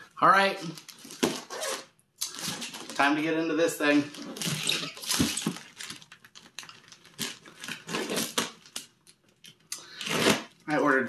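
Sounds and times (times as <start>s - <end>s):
plastic wrapping crinkling: 0.6s - 11.0s.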